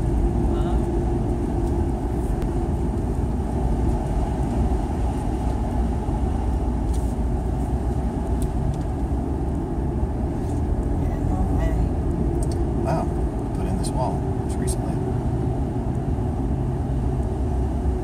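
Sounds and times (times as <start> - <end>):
car road noise from inside: 0.0 - 18.0.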